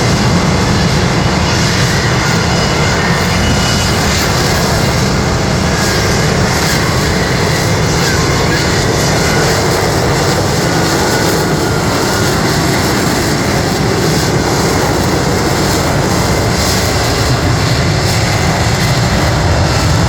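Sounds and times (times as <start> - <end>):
jet engine roaring: 0.0 - 20.0.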